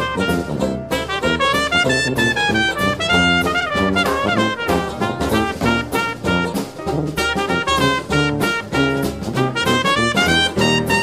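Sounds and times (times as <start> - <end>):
jazz tune on brass instruments: 0.0 - 11.0.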